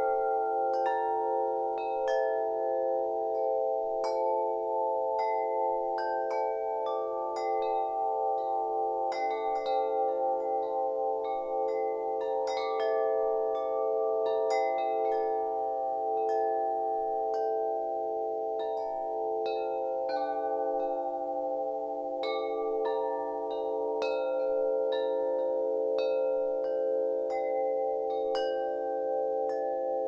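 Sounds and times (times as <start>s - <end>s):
wind chimes ringing: 0.0s - 30.0s.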